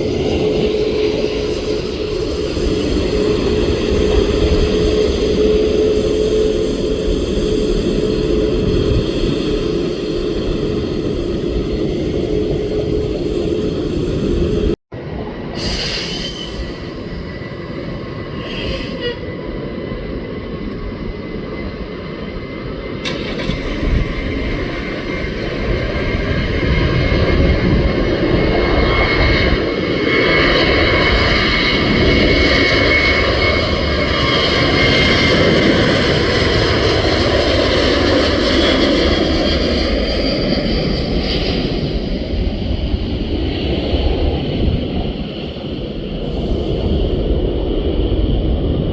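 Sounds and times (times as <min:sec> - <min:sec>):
jet engines passing by: 0:00.0 - 0:48.9.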